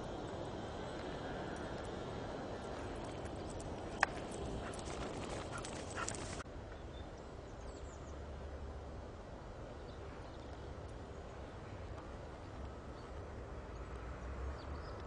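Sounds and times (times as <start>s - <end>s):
low rumble of wind: 0.0s - 15.0s.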